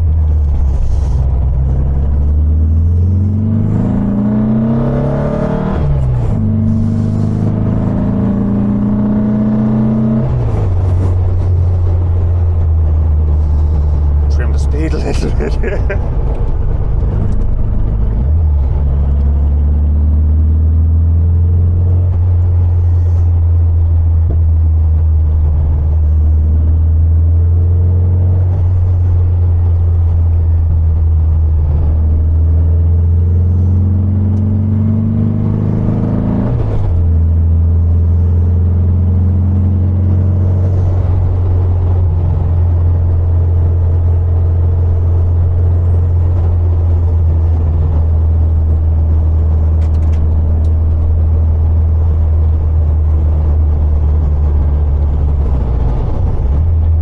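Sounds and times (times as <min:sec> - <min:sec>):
car engine drone accelerating: 0:00.0 - 0:57.0.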